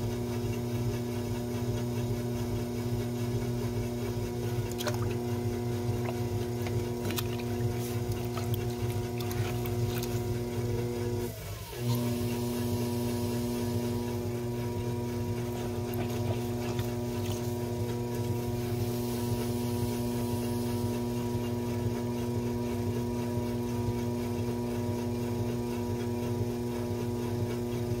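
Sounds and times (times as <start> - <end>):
potter's wheel motor humming: 0.0 - 28.0.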